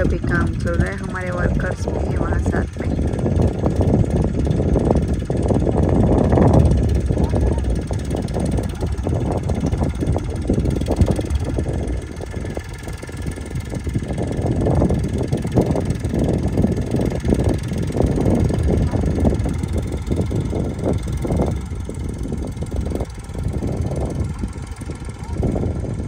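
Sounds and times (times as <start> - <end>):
distant tractor engine rumbling: 0.0 - 26.0.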